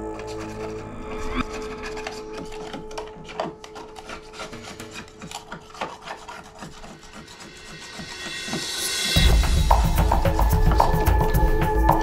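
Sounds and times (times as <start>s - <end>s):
rag scrubbing a hull: 0.0s - 11.2s.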